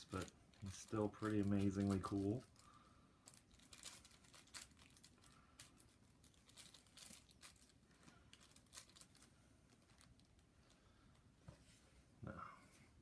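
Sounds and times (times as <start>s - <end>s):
packaging crinkling: 0.0s - 10.9s.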